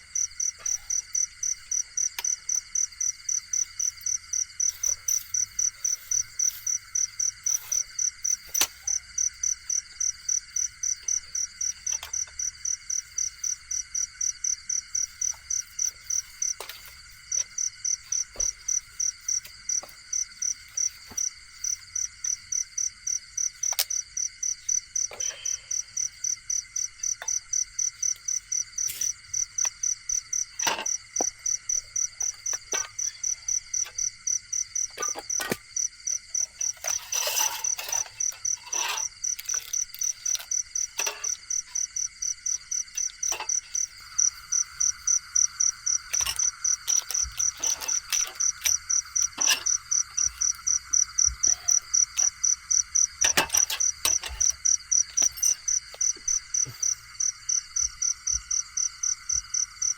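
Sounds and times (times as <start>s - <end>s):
cricket chirping: 0.0s - 59.9s
insects droning: 0.0s - 59.9s.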